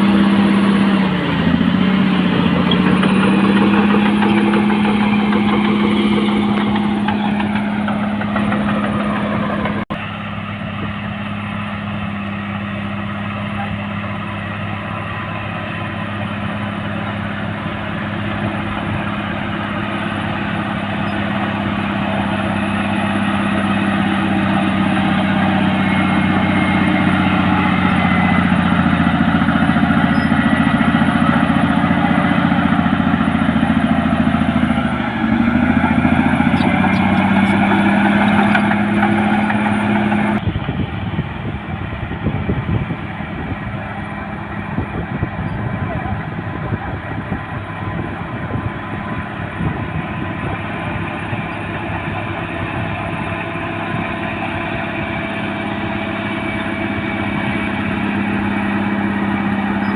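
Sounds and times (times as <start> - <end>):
bulldozer diesel engine droning: 0.0 - 59.9.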